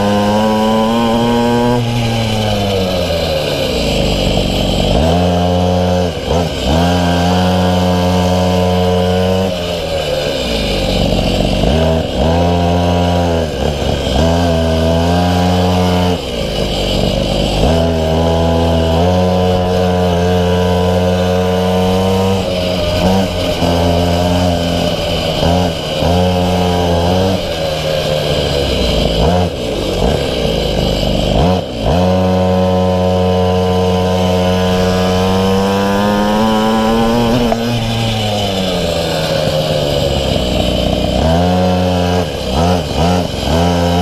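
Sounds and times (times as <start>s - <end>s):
small two-stroke engine revving: 0.0s - 44.0s.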